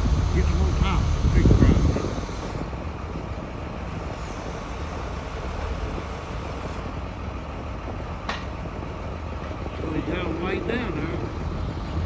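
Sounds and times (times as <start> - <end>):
crane engine rumbling: 0.0 - 12.0.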